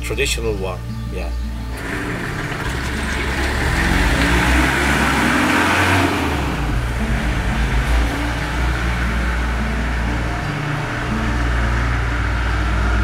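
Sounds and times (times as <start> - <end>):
van engine accelerating: 0.8 - 13.0.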